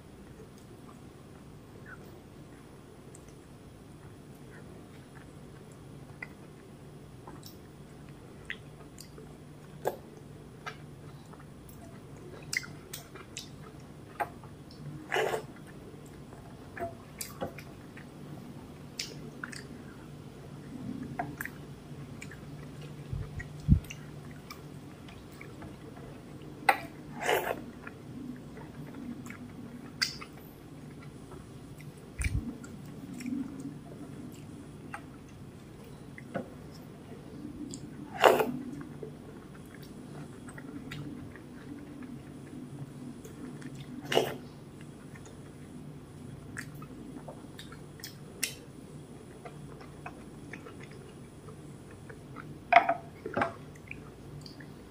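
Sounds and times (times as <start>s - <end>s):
low steady hum: 0.0s - 54.9s
soft chewing: 0.1s - 54.9s.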